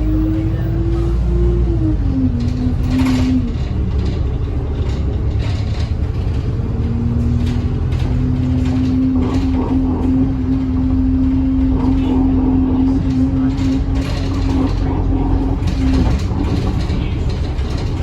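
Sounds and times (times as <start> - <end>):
bus engine rumble with whine: 0.0 - 18.0.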